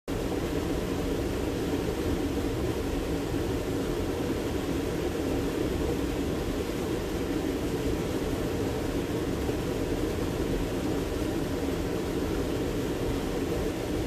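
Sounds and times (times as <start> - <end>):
creek flowing over rocks: 0.1 - 14.0.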